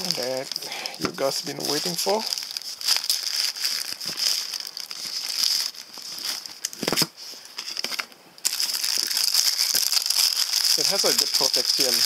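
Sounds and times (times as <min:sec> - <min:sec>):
packaging crinkling and rustling: 0:00.0 - 0:12.0
steady high hiss: 0:00.0 - 0:12.0.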